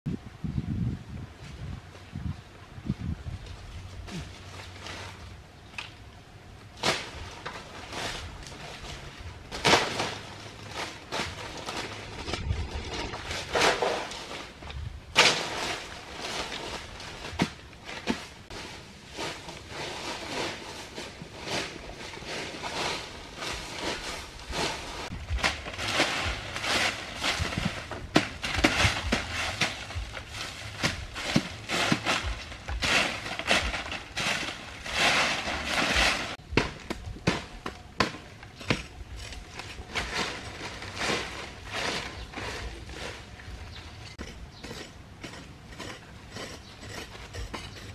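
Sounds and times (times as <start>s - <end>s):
dry leaves crackling and rustling: 3.5s - 5.4s, 6.8s - 12.6s, 13.2s - 44.4s.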